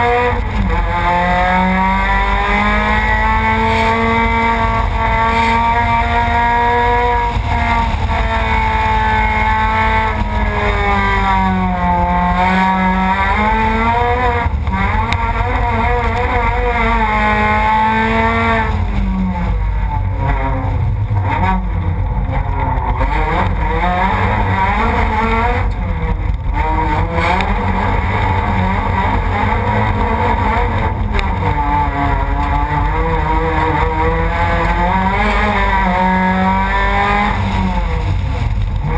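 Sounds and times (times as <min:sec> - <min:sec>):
low rumble: 0:00.0 - 0:38.9
race car engine revving: 0:00.0 - 0:38.9.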